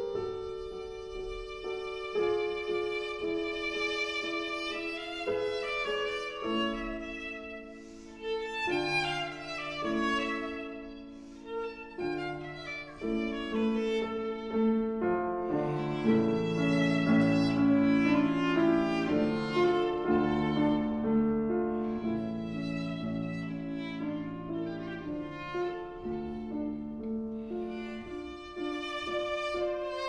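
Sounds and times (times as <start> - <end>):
piano accompaniment: 0.0 - 30.0
viola bowed notes: 0.0 - 30.0.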